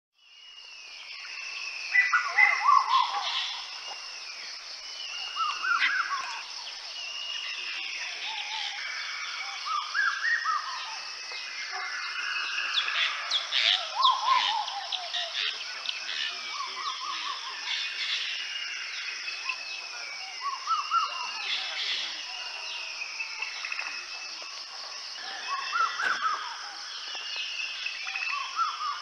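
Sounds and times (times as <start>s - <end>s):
jungle birds whistling: 0.2s - 29.0s.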